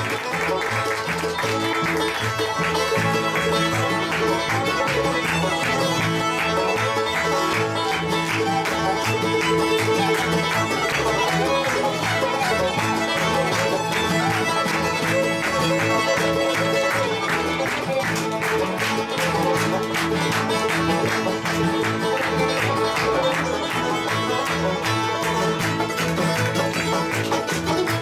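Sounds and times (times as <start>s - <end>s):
banjo: 0.0s - 28.0s
fiddle playing lead: 0.0s - 28.0s
strummed acoustic guitar: 0.0s - 28.0s
upright bass: 0.0s - 28.0s.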